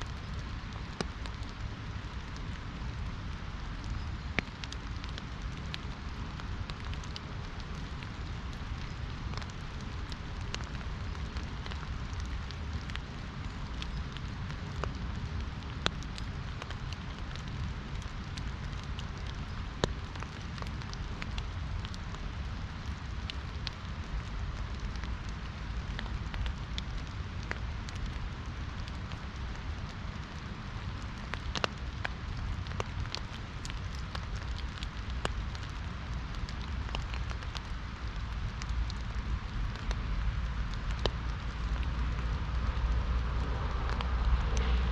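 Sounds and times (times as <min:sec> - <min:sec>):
rain on an umbrella: 0:00.0 - 0:44.9.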